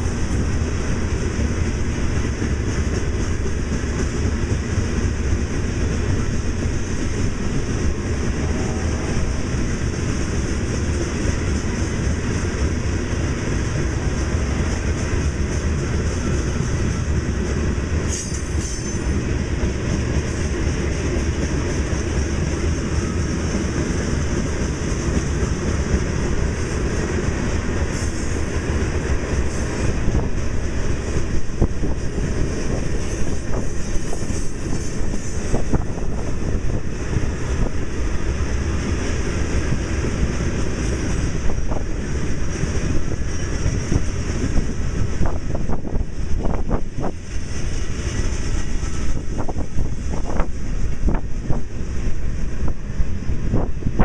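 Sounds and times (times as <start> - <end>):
steel wheels rumbling on rail: 0.0 - 54.0.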